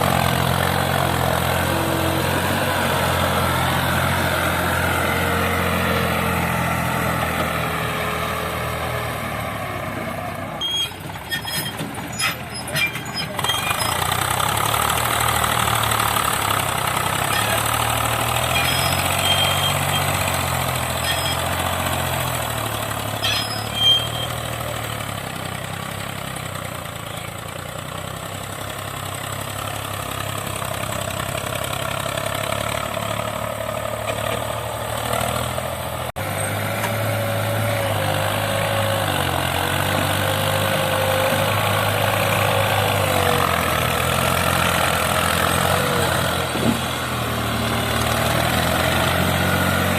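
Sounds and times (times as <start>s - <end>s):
diesel tractor engines running: 0.0s - 49.9s.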